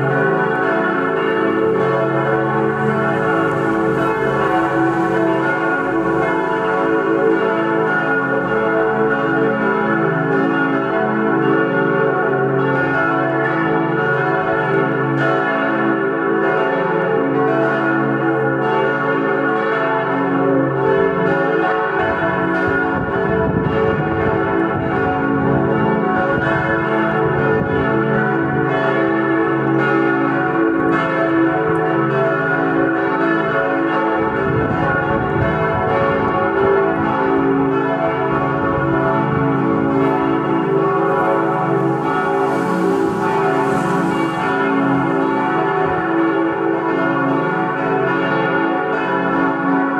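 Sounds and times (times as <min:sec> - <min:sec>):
church bells pealing: 0:00.0 - 0:49.9.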